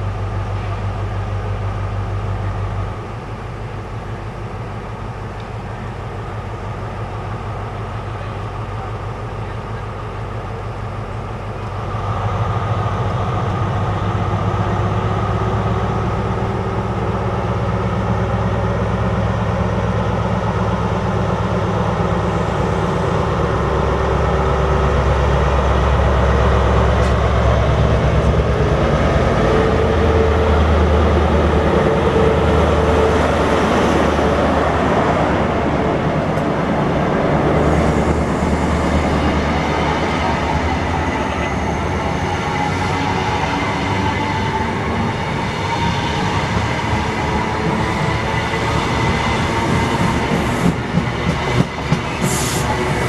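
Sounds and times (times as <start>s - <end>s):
train coaches rolling past: 0.0s - 53.0s
train diesel engine droning: 0.0s - 53.0s.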